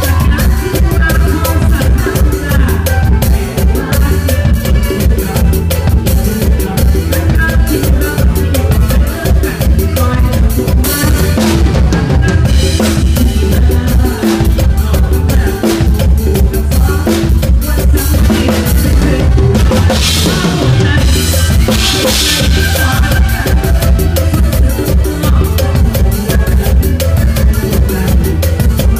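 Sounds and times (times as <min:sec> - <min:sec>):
band playing: 0:00.0 - 0:28.9.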